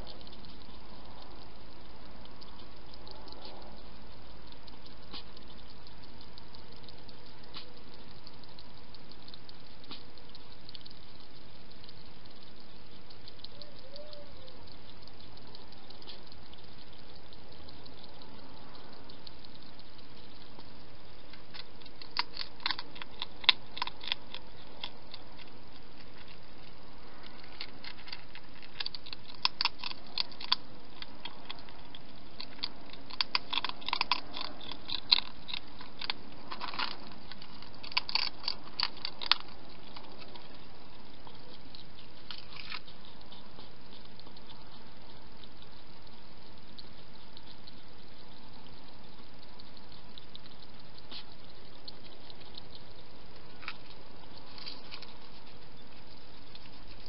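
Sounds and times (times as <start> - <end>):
hedgehog crunching food: 0.0 - 57.0.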